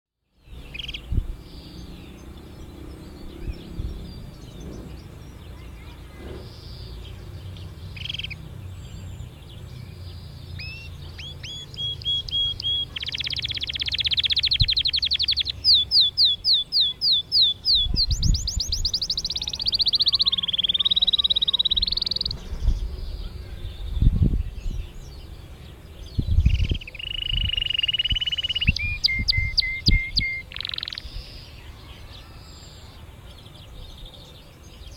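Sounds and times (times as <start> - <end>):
canary singing: 0.4 - 34.9.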